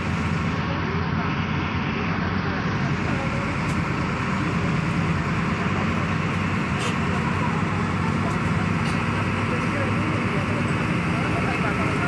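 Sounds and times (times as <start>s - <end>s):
bus engine drone: 0.0s - 12.0s
road and tyre noise: 0.0s - 12.0s.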